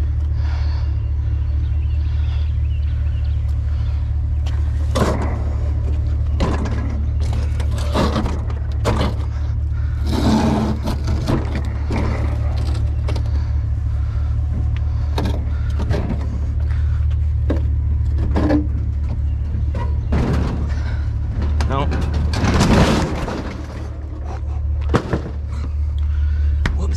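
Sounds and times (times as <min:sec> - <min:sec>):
truck engine rumbling: 0:00.0 - 0:26.9
knocks clanks and scrapes: 0:04.5 - 0:26.6.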